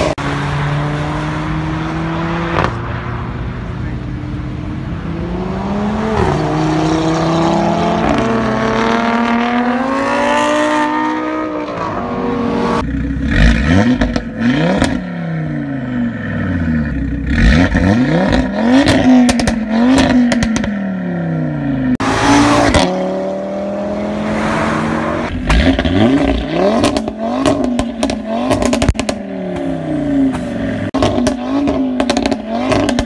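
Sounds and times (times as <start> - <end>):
car engine accelerating and revving: 0.0 - 33.0.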